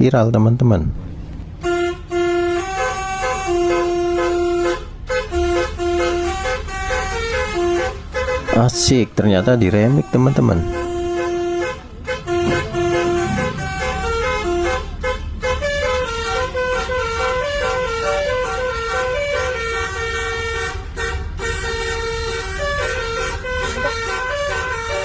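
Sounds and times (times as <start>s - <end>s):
low engine rumble: 0.0s - 25.0s
bus horn playing a tune: 1.6s - 25.0s.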